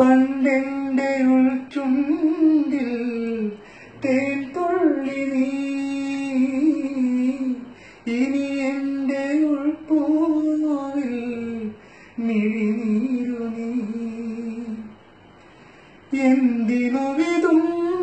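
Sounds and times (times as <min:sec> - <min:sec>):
man singing unaccompanied: 0:00.0 - 0:15.0, 0:16.1 - 0:18.0.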